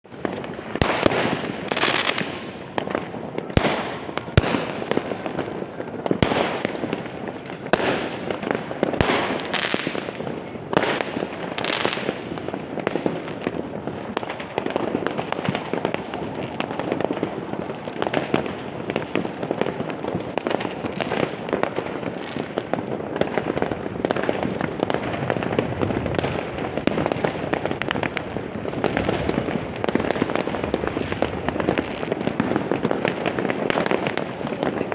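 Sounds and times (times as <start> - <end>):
fireworks crackling: 0.0 - 34.9
firecracker bangs: 0.1 - 16.8, 17.4 - 34.9.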